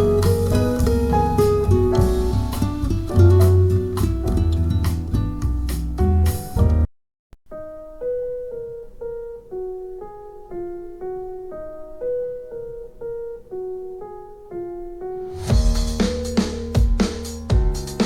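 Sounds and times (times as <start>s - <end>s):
gentle piano-like keyboard melody: 0.0s - 6.9s, 7.5s - 18.0s.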